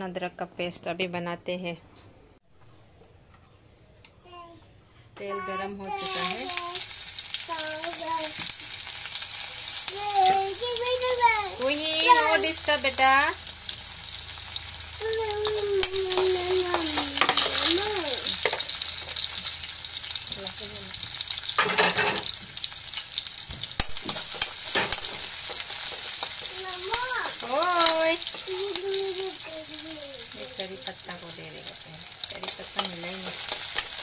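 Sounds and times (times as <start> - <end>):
onions sizzling in hot oil: 5.9 - 34.0.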